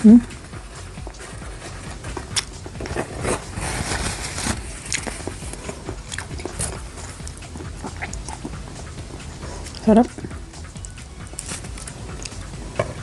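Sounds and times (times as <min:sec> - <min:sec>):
biting and chewing crunchy food: 0:00.6 - 0:13.0.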